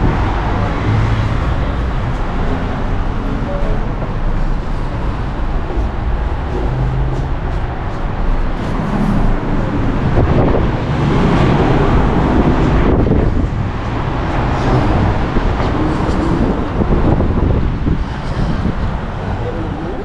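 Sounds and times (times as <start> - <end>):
cars passing on city street: 0.0 - 20.0.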